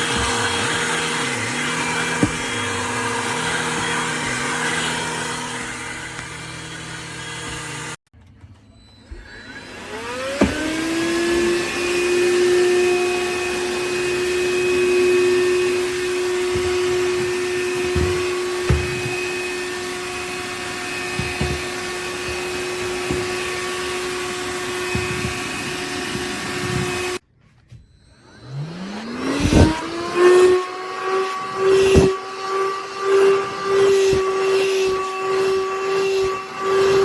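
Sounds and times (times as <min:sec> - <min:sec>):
handheld vacuum whine: 0:00.0 - 0:37.0.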